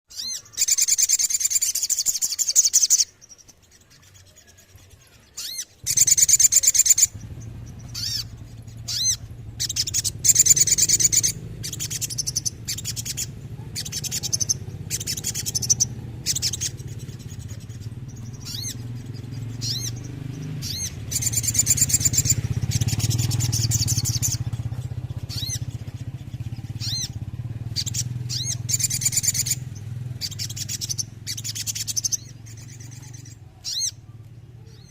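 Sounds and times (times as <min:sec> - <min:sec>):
bird rattling trills: 0:00.1 - 0:34.0
steady low hum: 0:05.8 - 0:34.9.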